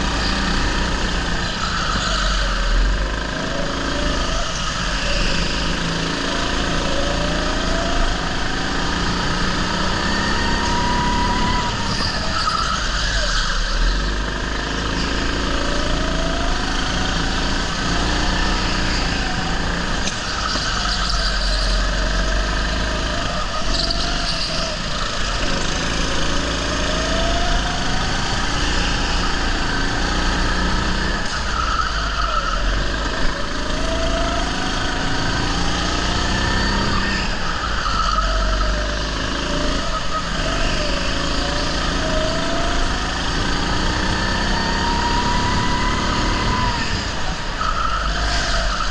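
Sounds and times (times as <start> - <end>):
go-kart engine: 0.0 - 48.9
wind and road noise: 0.0 - 48.9.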